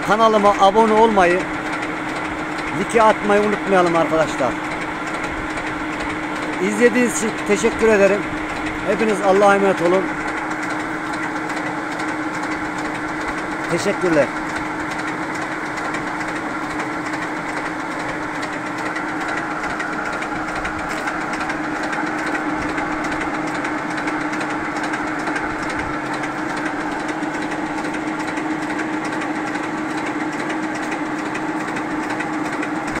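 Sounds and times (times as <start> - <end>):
drilling rig engine humming: 0.0 - 33.0.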